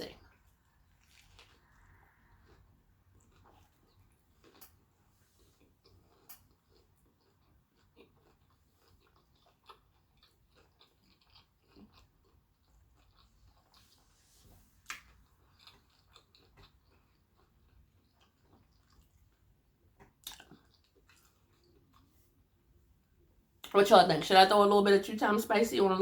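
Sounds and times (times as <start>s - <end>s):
faint chewing with mouth clicks: 0.0s - 23.8s.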